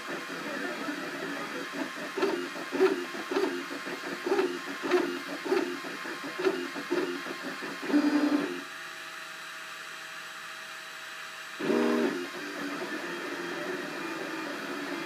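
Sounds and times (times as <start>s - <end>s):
printer stepper motors whirring: 0.0s - 8.8s, 11.6s - 15.0s.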